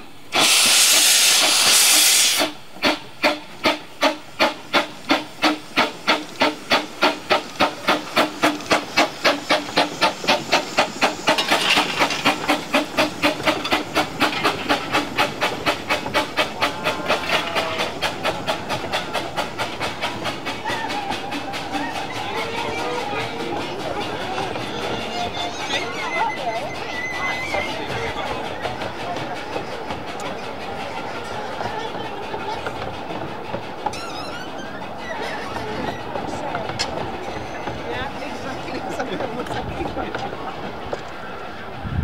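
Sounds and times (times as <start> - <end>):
steam locomotive exhaust beats: 0.0 - 42.0
steam hissing from drain cocks: 0.3 - 40.3.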